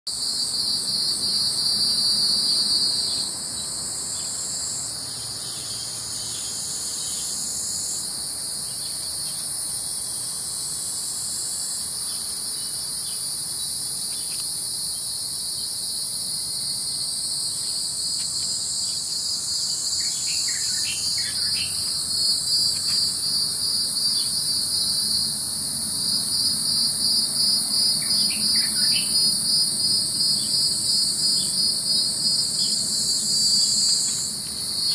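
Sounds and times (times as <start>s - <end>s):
high shrill insect chorus: 0.1s - 34.9s
pulsing insect buzz: 0.1s - 34.9s.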